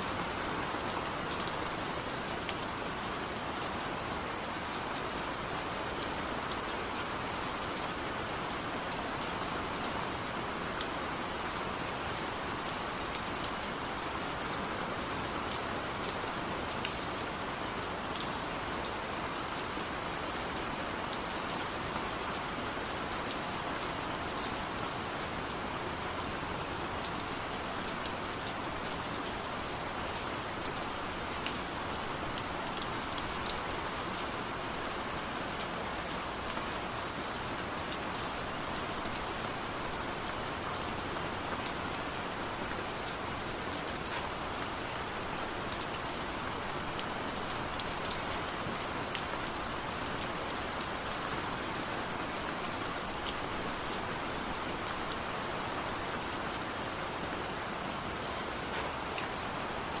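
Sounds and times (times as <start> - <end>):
raindrops ticking on surfaces: 0.0 - 60.0
steady rain hiss: 0.0 - 60.0.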